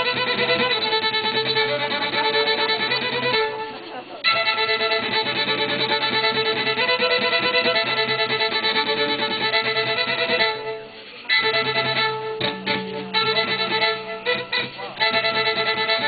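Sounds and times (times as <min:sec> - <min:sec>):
fiddle playing: 0:00.0 - 0:16.0.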